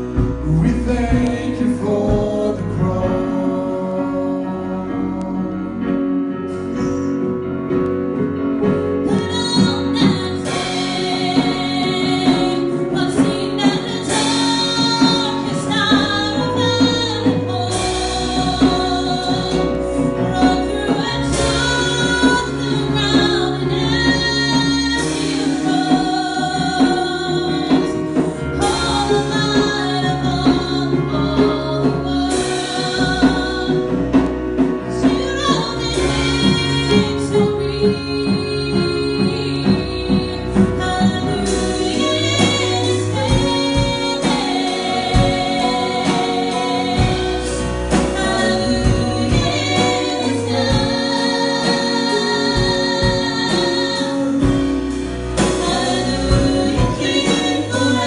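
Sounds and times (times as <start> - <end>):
instrumental accompaniment: 0.0 - 58.0
woman singing worship music: 0.0 - 58.0.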